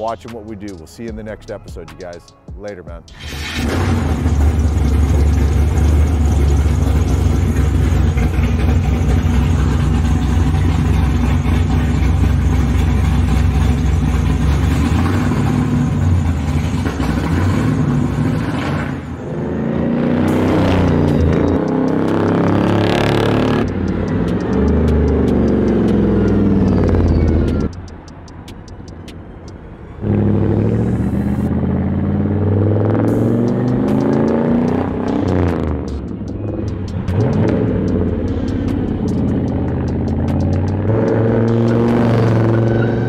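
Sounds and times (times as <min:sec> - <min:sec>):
cars passing: 0:00.0 - 0:43.0
car engine revving: 0:03.1 - 0:43.0.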